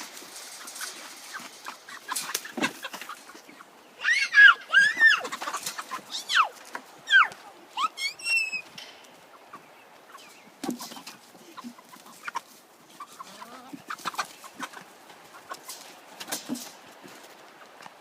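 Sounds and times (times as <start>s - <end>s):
chickens clucking and squawking: 0.0s - 18.0s.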